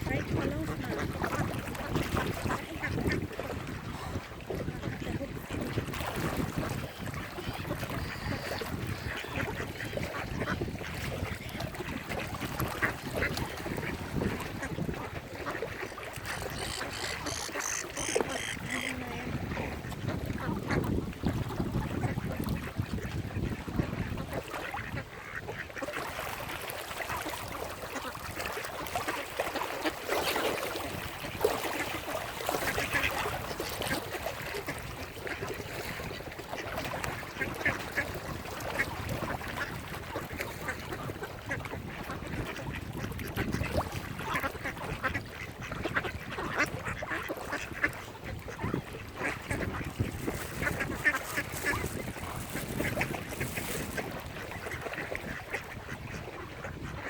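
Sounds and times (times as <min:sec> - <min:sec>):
ducks quacking: 0:00.0 - 0:20.9, 0:21.7 - 0:26.2, 0:27.9 - 0:57.0.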